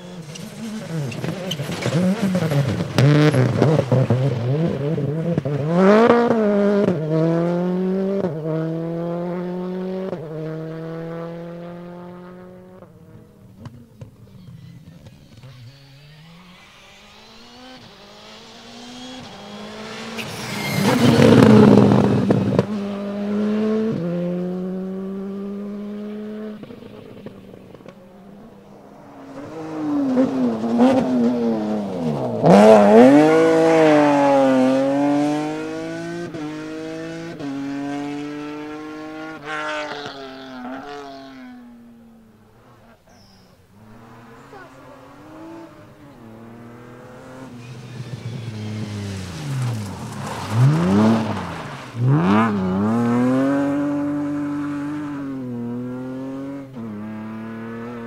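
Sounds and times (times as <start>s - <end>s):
car passing close: 0.0s - 58.0s
rally car engines revving: 0.0s - 58.0s.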